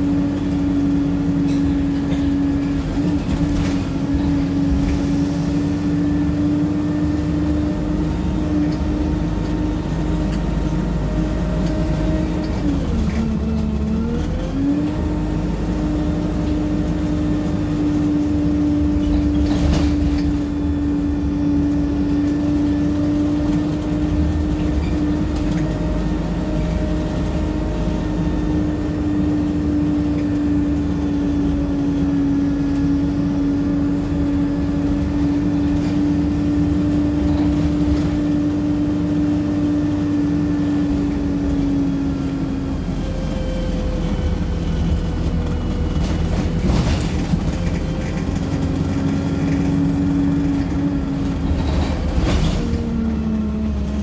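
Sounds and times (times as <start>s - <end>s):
bus running whine and rumble: 0.0s - 54.0s.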